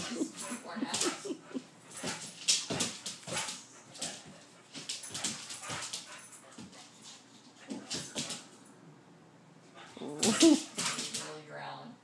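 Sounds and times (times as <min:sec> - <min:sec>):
dog paws scuffling on wood floor: 0:00.0 - 0:08.7, 0:09.7 - 0:11.5.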